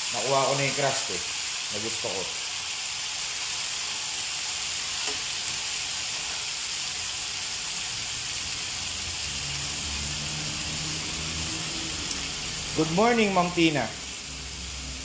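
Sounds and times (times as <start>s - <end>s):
chicken sizzling in skillet: 0.0s - 15.0s.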